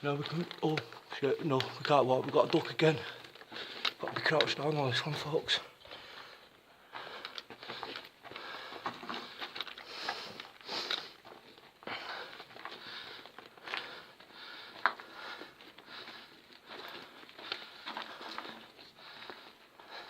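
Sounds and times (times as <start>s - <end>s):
footsteps crunching over rubble: 0.0s - 20.0s.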